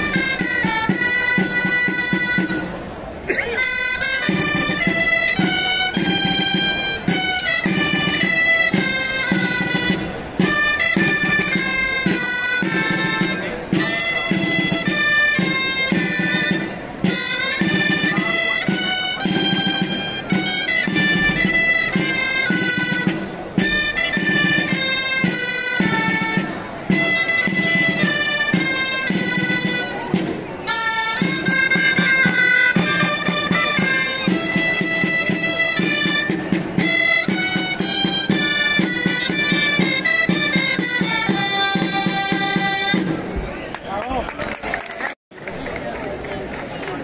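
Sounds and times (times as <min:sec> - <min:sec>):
double-reed shawms playing festive tune: 0:00.0 - 0:43.7.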